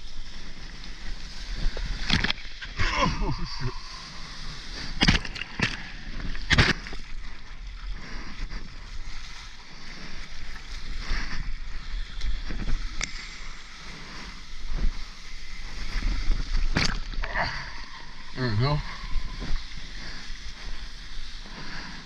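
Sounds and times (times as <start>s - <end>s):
water splashing over surfboard: 0.0s - 22.0s.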